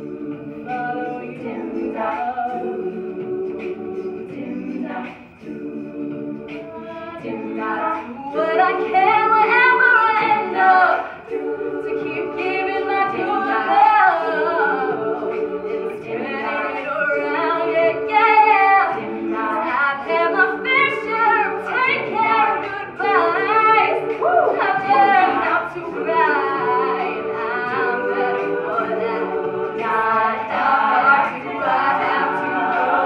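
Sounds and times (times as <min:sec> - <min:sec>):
female group singing in harmony: 0:00.0 - 0:33.0.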